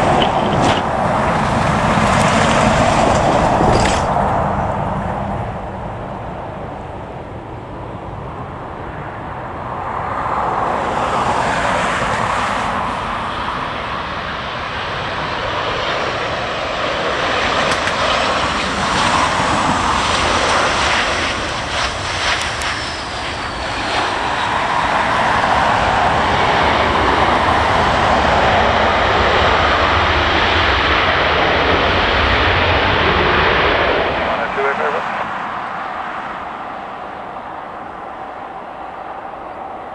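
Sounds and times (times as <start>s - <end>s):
jet engine high whine: 0.0s - 39.9s
jet engines rushing: 0.0s - 39.9s.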